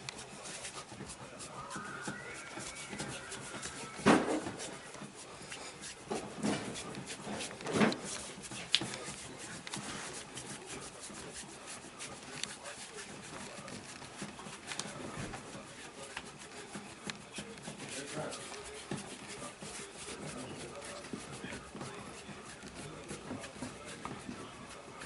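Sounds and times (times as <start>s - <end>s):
hands rubbing skin: 0.0s - 25.0s.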